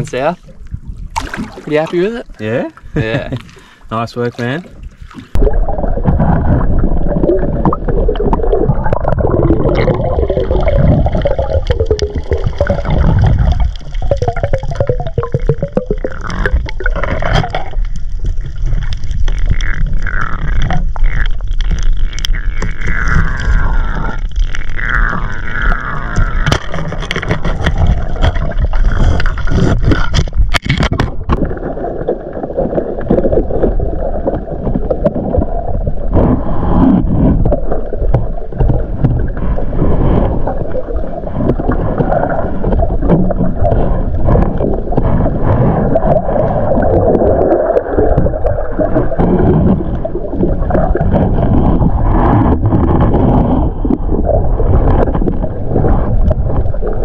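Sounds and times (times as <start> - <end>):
underwater water rushing: 0.0 - 57.0.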